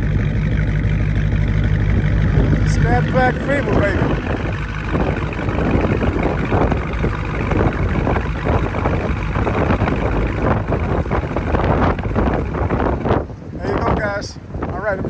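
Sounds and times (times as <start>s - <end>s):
deep engine exhaust rumble: 0.0s - 15.0s.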